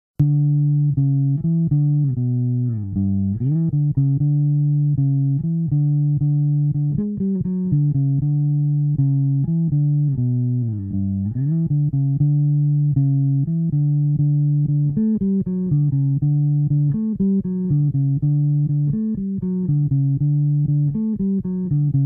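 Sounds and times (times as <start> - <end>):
bass guitar riff: 0.2 - 22.0.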